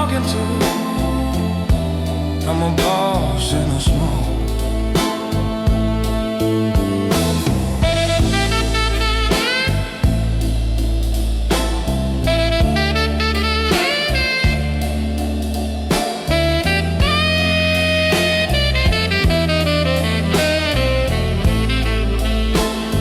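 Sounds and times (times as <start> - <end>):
bass: 0.0 - 23.0
drum kit: 0.0 - 23.0.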